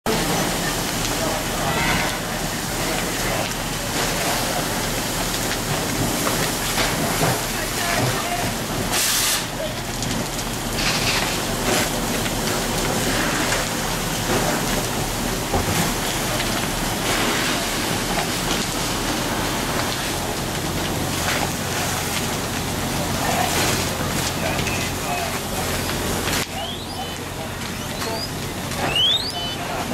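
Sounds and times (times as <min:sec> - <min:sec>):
fire crackling and popping: 0:00.1 - 0:29.9
water spray and flames hissing: 0:00.1 - 0:29.9.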